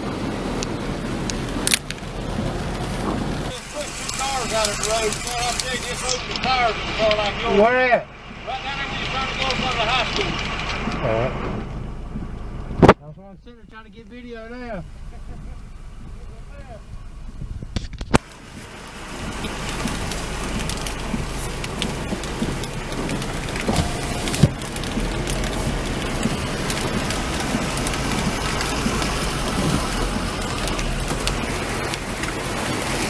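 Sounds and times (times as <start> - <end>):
rain falling: 0.0 - 13.0, 13.6 - 33.0.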